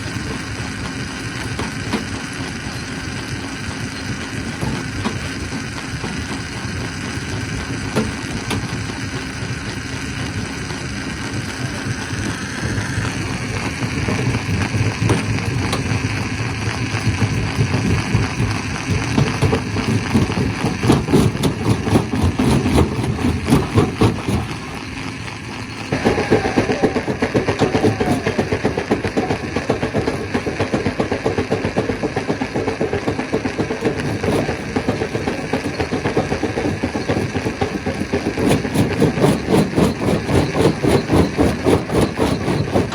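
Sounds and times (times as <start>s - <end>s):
stone crusher machine rumbling: 0.0s - 42.9s.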